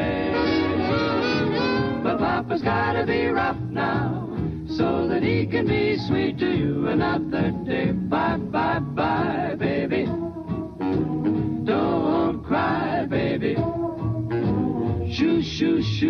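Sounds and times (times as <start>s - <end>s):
big band music with singer: 0.0s - 16.0s.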